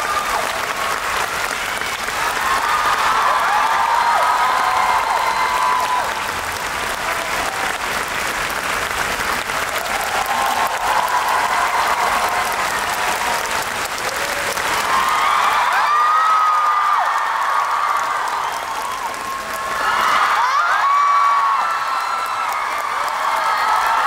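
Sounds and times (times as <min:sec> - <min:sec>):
voices cheering: 0:00.0 - 0:08.0, 0:09.4 - 0:24.0
audience applauding: 0:00.0 - 0:24.0.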